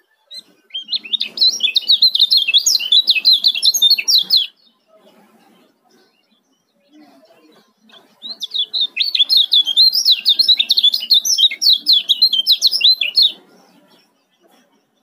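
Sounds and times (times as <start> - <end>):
bird singing high chirps: 0.0 - 5.0, 7.6 - 15.0.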